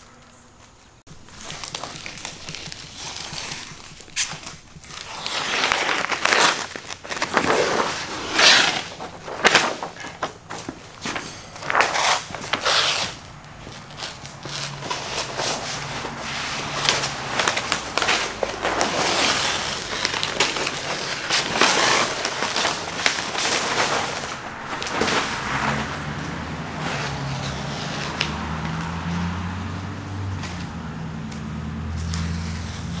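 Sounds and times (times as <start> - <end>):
masking paper crackling and tearing: 1.1 - 28.9.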